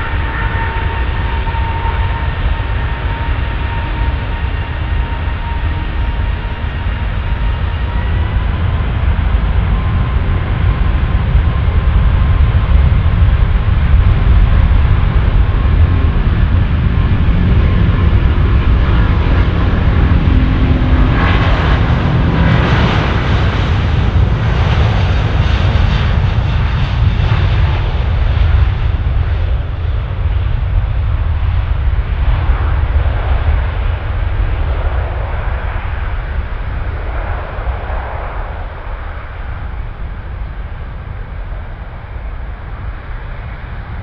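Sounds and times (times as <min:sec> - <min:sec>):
jet engine rumble and whine: 0:00.0 - 0:44.0.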